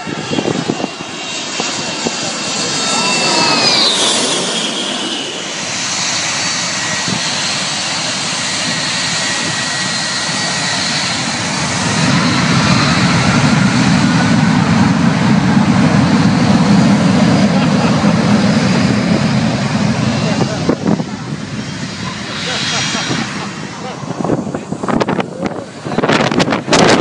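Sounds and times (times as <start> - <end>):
deep jet engine rumble: 0.0 - 27.0
jet airliner passing overhead: 0.0 - 27.0.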